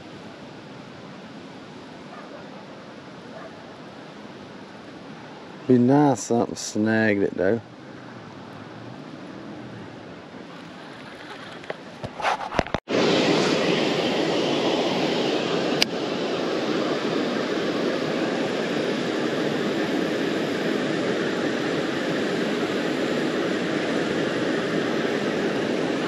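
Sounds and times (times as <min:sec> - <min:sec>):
flowing water rushing: 0:00.0 - 0:26.0.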